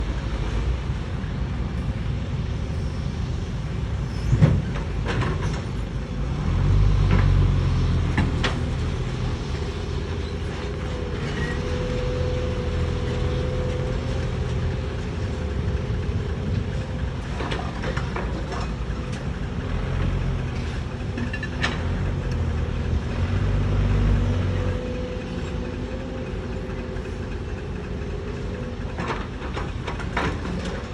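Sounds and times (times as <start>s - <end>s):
excavator engine rumble: 0.0s - 30.9s.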